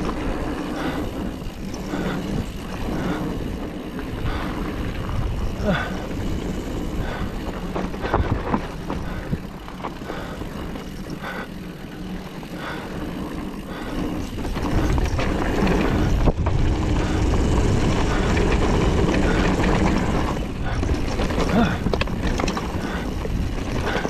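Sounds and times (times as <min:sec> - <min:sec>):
bike clicks and rattles: 0:00.0 - 0:24.0
bike tyres on gravel: 0:00.0 - 0:24.0
wind rumbling on microphone: 0:00.0 - 0:24.0.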